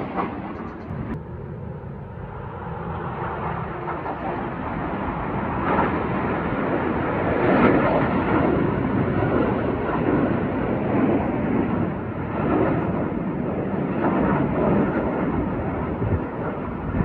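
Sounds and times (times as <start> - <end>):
jet engines passing overhead: 0.0 - 17.0.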